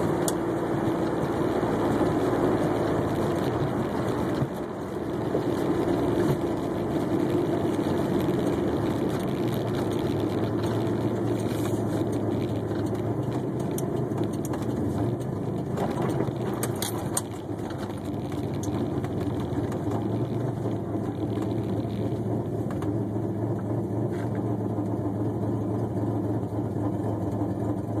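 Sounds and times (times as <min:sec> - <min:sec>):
car engine idling with exhaust leak: 0:00.0 - 0:28.0.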